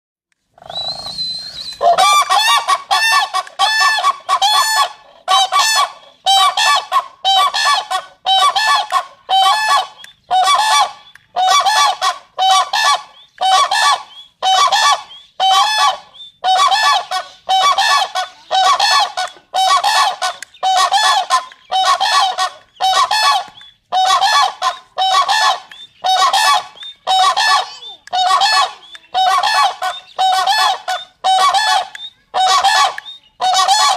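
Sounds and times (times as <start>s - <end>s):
crane calling: 0.6s - 33.9s.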